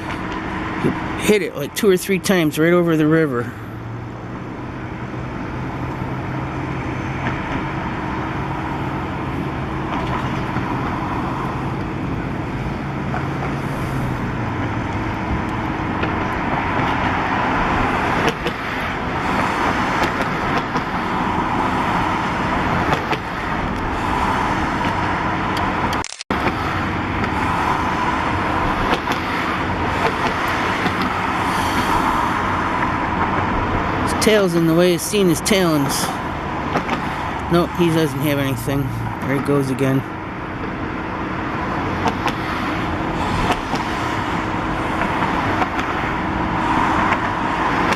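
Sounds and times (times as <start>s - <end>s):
city road traffic: 0.0s - 47.9s
low engine hum: 0.0s - 47.9s.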